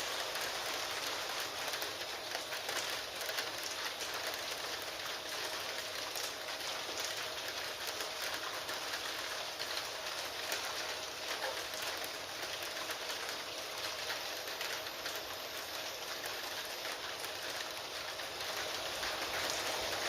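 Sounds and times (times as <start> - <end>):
rain falling on a surface: 0.0 - 20.0.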